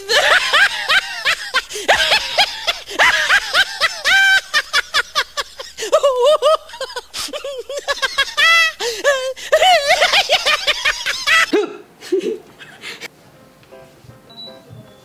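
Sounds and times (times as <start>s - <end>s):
high-pitched giggling: 0.0s - 13.1s.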